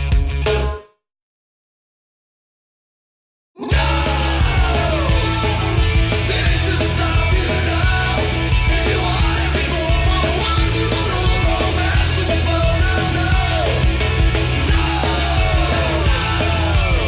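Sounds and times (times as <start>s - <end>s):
rock music: 0.0s - 0.8s, 3.6s - 17.0s.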